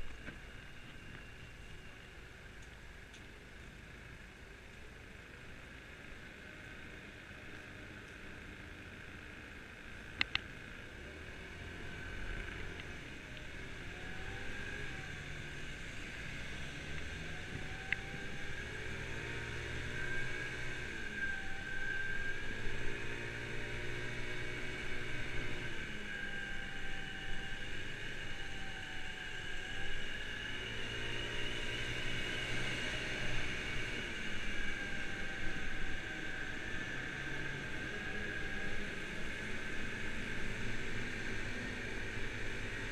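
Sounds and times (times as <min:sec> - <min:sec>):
road and wind noise: 0:00.0 - 0:42.9
scooter engine running: 0:04.1 - 0:42.9.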